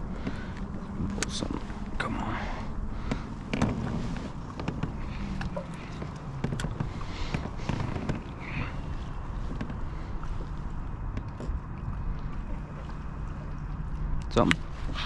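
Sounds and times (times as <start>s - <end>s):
water lapping against hull: 0.0s - 15.0s
wind rumbling on microphone: 0.0s - 15.0s.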